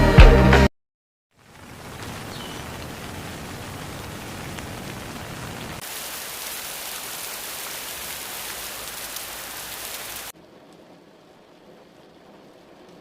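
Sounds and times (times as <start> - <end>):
heavy rainfall hiss: 1.4 - 13.0.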